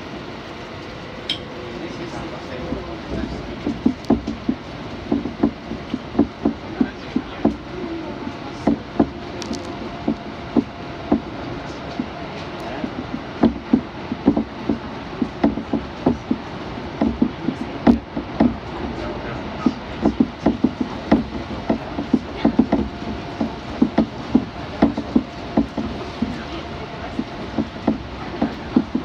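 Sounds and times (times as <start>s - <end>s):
train rumble: 0.0s - 29.0s
wheel clacks over rail joints: 2.7s - 29.0s.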